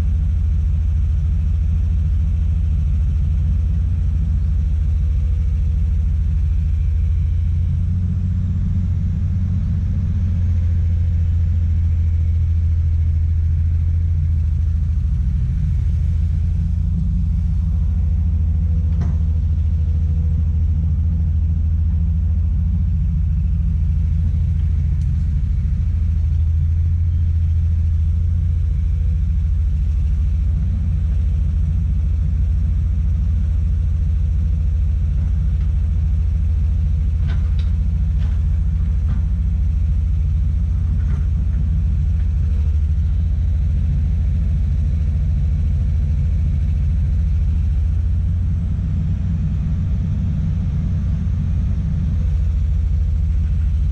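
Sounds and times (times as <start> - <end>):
excavator diesel engine rumbling: 0.0 - 53.9.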